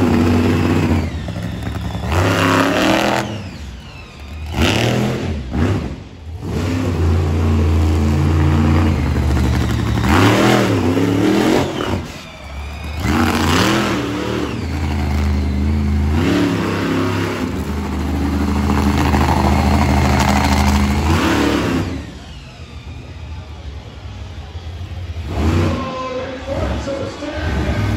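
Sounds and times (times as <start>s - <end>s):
truck engine revving hard: 0.0s - 22.9s, 25.1s - 27.9s.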